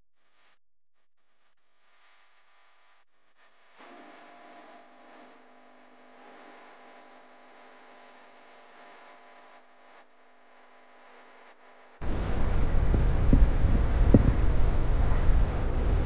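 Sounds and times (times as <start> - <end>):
faint steady hum: 1.4 - 16.0.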